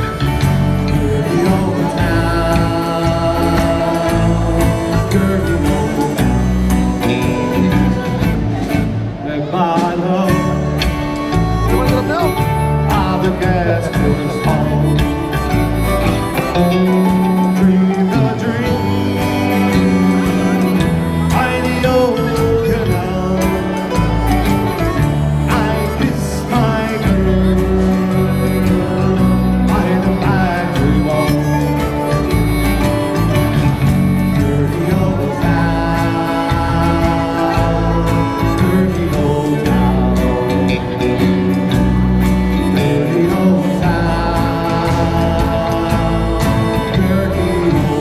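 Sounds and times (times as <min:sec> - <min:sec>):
bass and drum beat: 0:00.0 - 0:48.0
live folk band playing: 0:00.0 - 0:48.0
person singing: 0:00.0 - 0:48.0
strummed acoustic guitar: 0:00.0 - 0:48.0.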